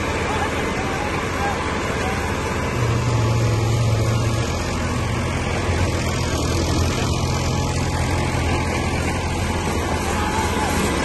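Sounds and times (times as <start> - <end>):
tractor diesel engines under load: 0.0 - 11.0.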